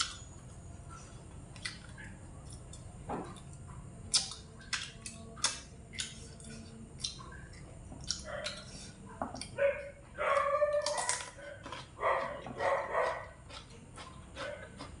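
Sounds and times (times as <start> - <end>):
chewing with wet mouth smacks: 0.9 - 8.8, 10.7 - 15.0.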